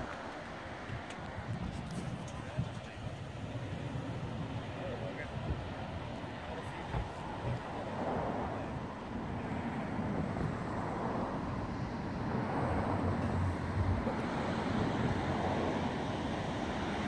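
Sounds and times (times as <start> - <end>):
surf on beach: 0.0 - 17.0
wind across microphone: 0.0 - 17.0.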